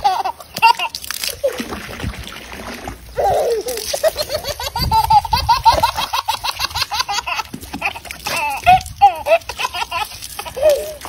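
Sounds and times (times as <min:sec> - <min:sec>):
toddler laughing: 0:00.0 - 0:01.6, 0:03.1 - 0:11.0.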